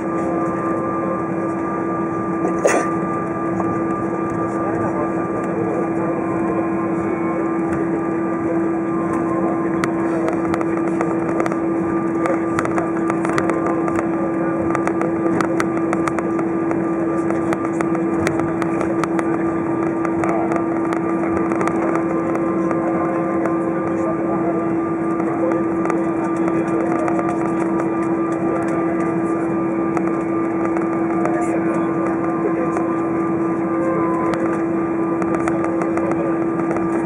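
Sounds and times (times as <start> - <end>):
aircraft engine drone: 0.0 - 37.0.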